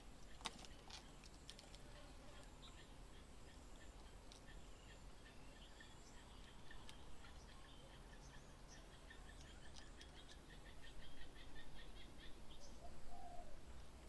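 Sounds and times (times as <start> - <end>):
faint bird chirps: 2.3 - 13.7.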